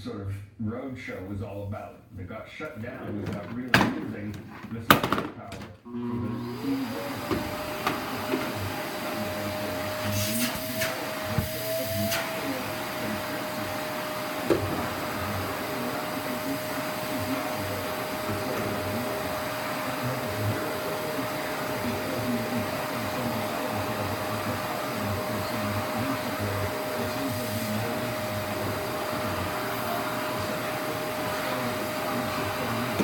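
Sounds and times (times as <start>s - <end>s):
vacuum cleaner running: 2.6s - 33.0s.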